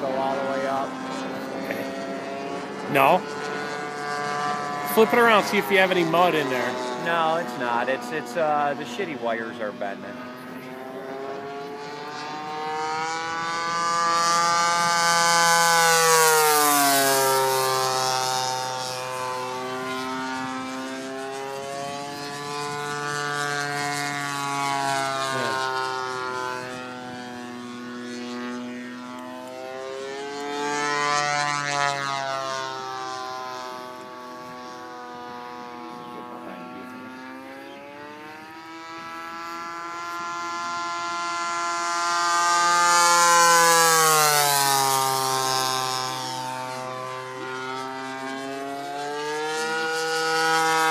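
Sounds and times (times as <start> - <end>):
model airplane engine droning: 0.0 - 50.9.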